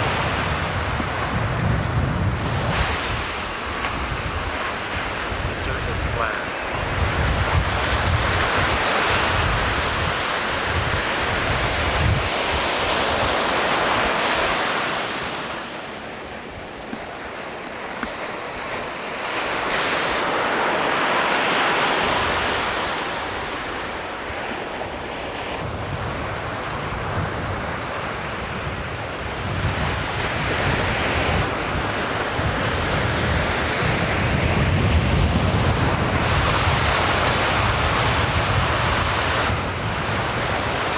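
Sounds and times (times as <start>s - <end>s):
ocean surf breaking: 0.0s - 40.9s
wind buffeting microphone: 0.0s - 40.9s.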